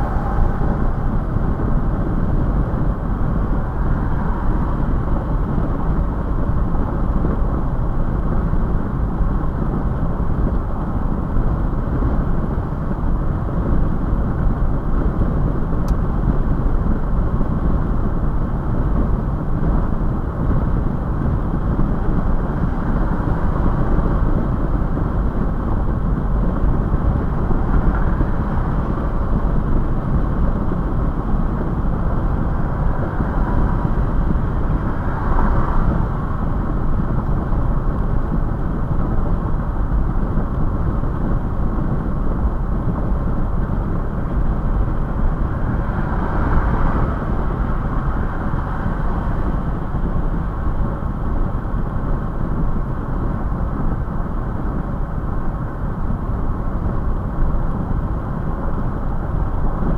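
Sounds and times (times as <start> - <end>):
road and engine noise inside car: 0.0 - 59.9.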